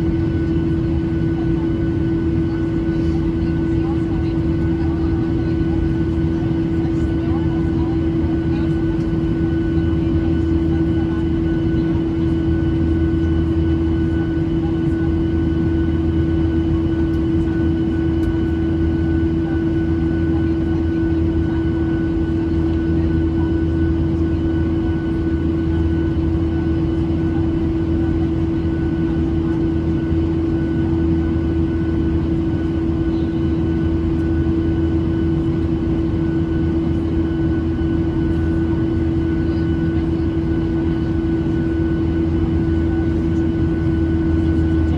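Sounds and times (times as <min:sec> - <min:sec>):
airplane cabin engine drone: 0:00.0 - 0:44.9.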